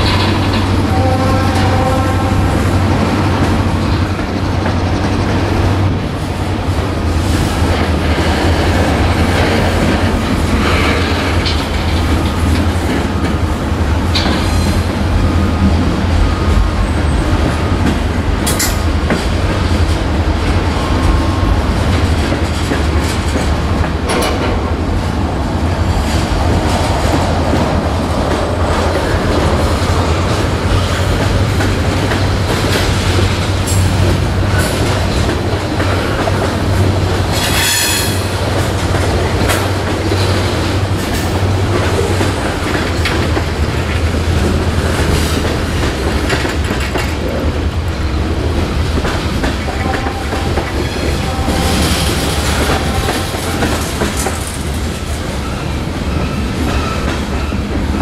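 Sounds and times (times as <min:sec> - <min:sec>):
clickety-clack over rail joints: 0:00.0 - 0:58.0
steel wheels rumbling on rail: 0:00.0 - 0:58.0.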